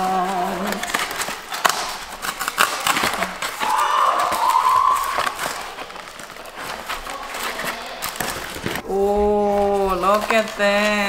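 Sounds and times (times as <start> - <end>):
food wrapping crinkling: 0.0 - 11.0.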